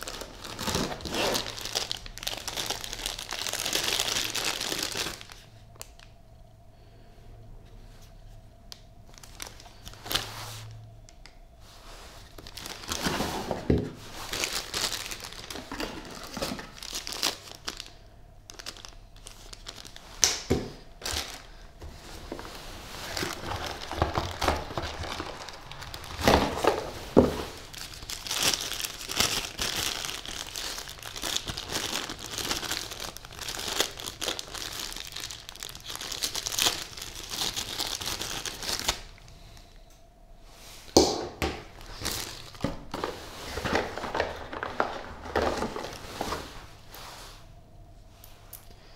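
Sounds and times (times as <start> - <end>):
packaging crinkling: 0.0 - 6.2, 9.0 - 10.8, 12.1 - 39.6, 41.6 - 46.6.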